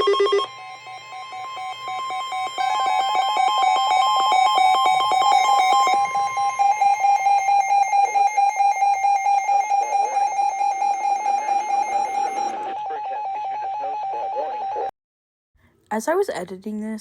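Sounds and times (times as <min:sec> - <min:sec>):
buzzy electronic alarm beeping: 0:00.0 - 0:14.4.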